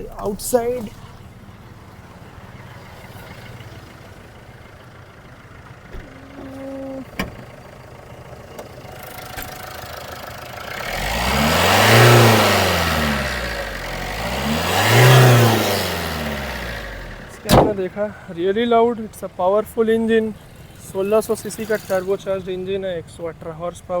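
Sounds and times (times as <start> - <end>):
diesel engine idling and revving: 0.0 - 24.0.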